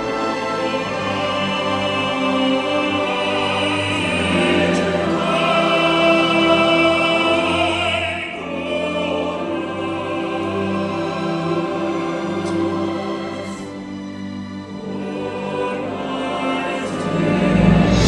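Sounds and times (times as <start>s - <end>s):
choir singing sustained notes: 0.0s - 18.0s.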